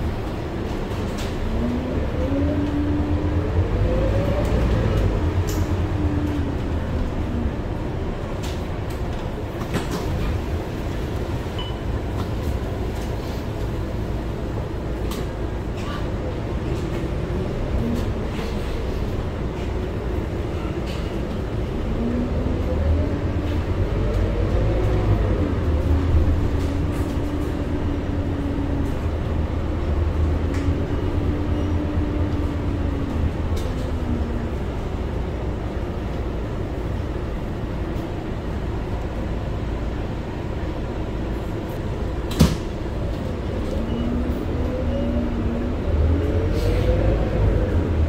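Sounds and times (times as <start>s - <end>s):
bus diesel rumble and whine: 0.0s - 48.0s.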